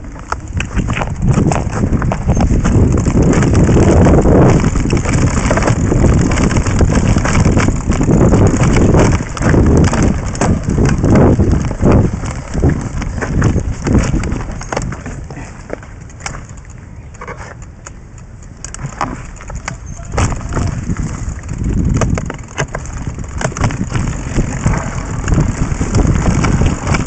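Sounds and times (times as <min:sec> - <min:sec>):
heavy low rumble: 0:00.0 - 0:15.9, 0:19.7 - 0:27.0
bike rattling over rocks: 0:00.0 - 0:27.0.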